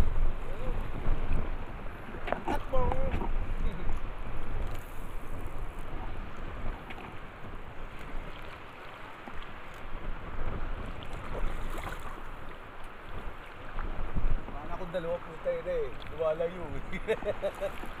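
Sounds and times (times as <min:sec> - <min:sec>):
wind buffeting microphone: 0:00.0 - 0:15.3
choppy lake water: 0:00.0 - 0:18.0.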